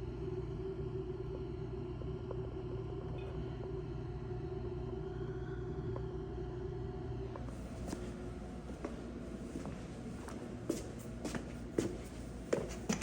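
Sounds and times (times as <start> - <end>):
mechanical hum and rumble: 0.0 - 13.0.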